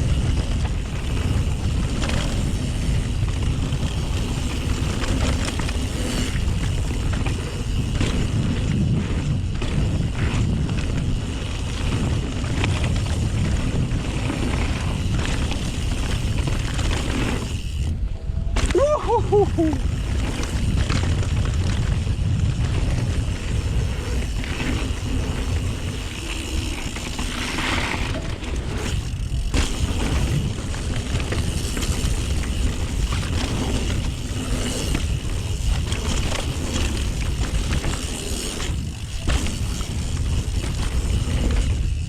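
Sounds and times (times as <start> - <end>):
tyres rumbling on dirt: 0.0 - 17.9, 18.5 - 42.0
bike rattling over bumps: 0.0 - 42.0
wind buffeting microphone: 0.0 - 42.0.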